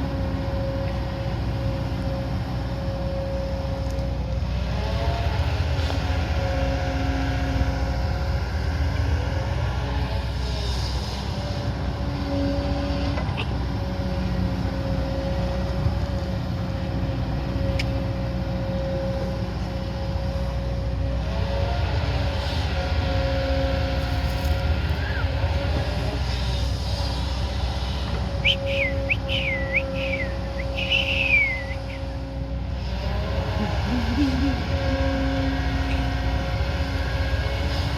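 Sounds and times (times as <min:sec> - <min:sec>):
heavy machine engine running: 0:00.0 - 0:37.9
whine: 0:00.0 - 0:37.9.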